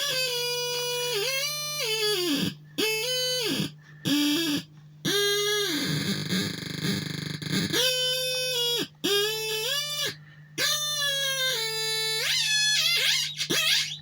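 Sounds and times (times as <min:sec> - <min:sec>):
steady low hum: 0:02.4 - 0:14.0.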